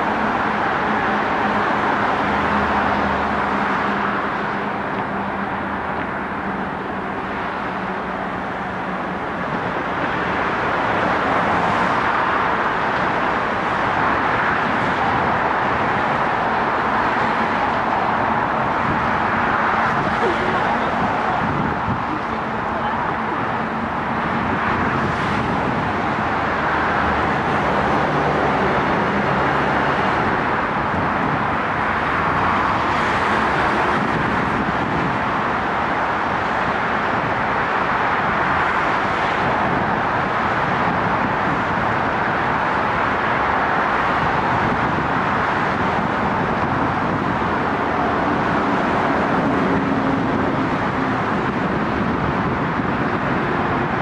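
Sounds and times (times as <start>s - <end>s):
tyre roar of passing cars: 0.0s - 54.0s.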